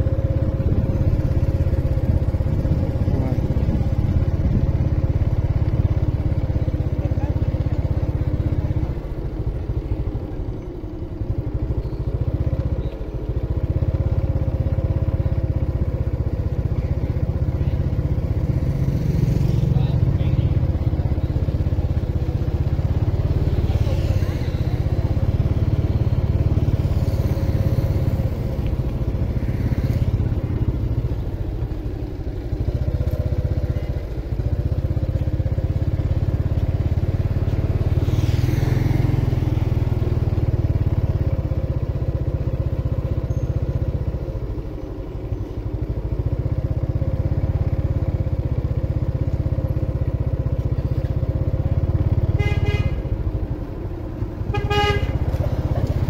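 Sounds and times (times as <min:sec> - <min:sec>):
motorbike engine running: 0:00.0 - 0:56.0
vehicles passing by: 0:00.0 - 0:56.0.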